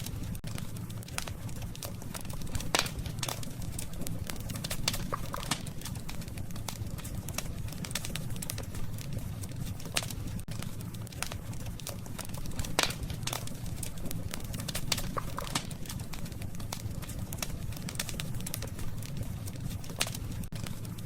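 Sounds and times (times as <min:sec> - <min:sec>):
campfire pops and snaps: 0:00.0 - 0:21.0
low rumble of burning fire: 0:00.0 - 0:21.0.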